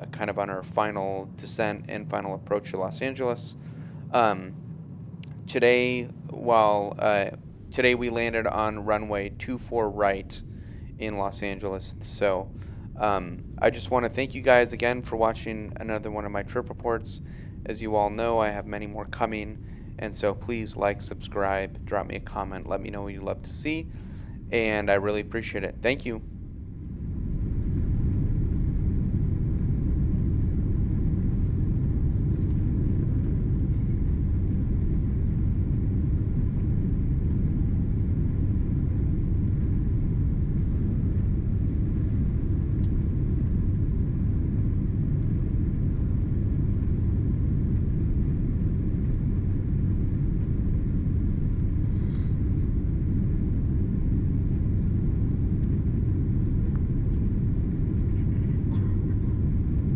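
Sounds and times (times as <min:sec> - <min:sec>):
airflow noise: 0:00.0 - 0:59.9
airliner cabin engine rumble: 0:00.0 - 0:59.9.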